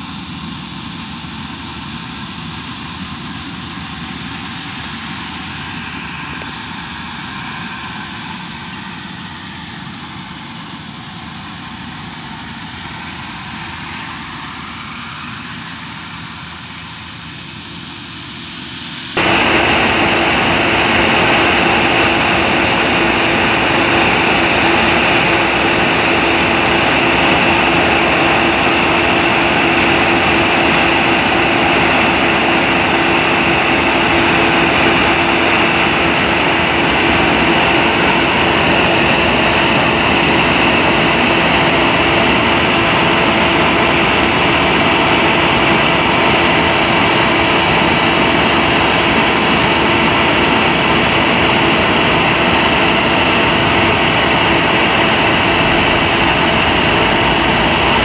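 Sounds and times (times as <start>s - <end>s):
diesel engine running at high revs: 0.0s - 58.0s.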